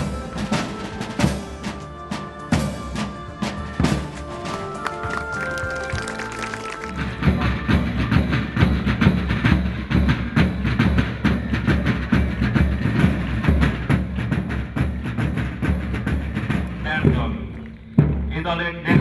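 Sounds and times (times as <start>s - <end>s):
drums playing marching beat: 0.0s - 19.0s.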